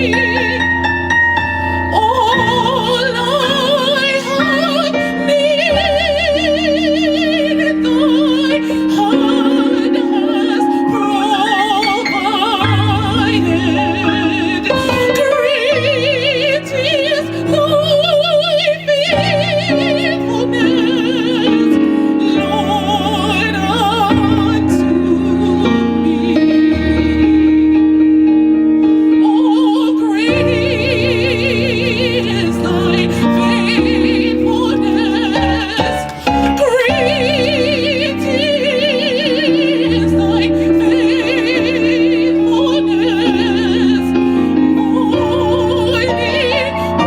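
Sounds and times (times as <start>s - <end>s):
gospel singing with vibrato: 0.0s - 28.1s, 28.8s - 47.0s.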